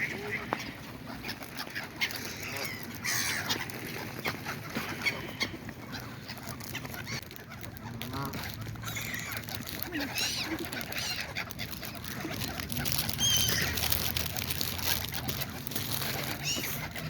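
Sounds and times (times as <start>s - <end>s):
waterfowl calling: 0.0s - 17.0s.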